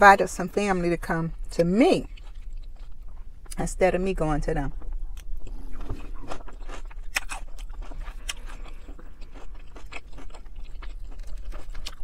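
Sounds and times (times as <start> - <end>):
person chewing with wet smacks: 1.1 - 3.7, 4.7 - 12.0.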